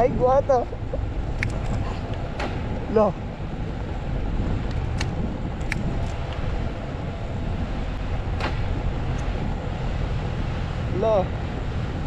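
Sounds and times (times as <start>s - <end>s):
wind and road noise rumble: 0.0s - 12.0s.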